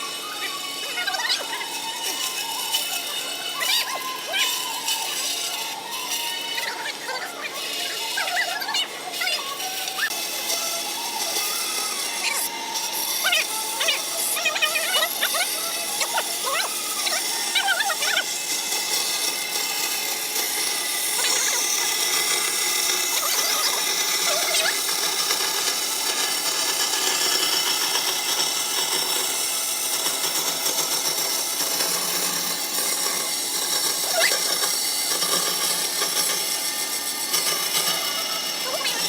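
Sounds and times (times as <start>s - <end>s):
high squeaks: 0.0s - 29.9s, 30.6s - 39.0s
power tool running: 0.0s - 39.0s.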